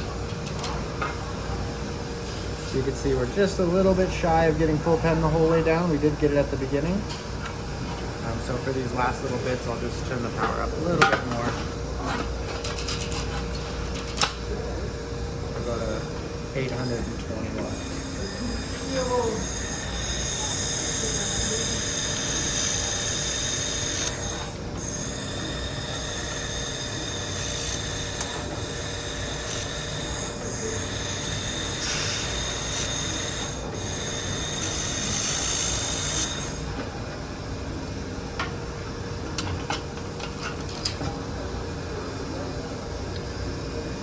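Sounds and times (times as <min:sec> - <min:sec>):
laser welder hiss and whine: 0:01.8 - 0:38.5.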